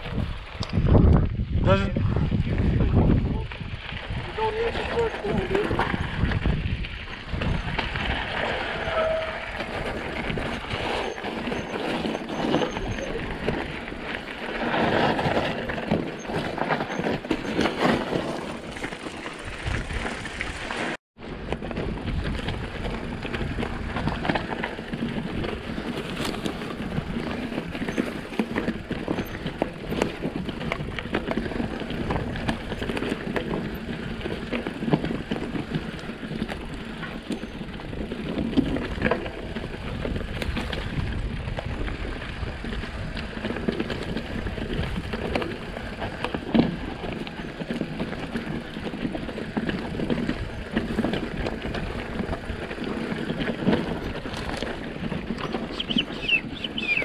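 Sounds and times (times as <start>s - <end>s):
bike rattling and clicking: 0.0s - 57.0s
bike tyres on loose ground: 0.0s - 57.0s.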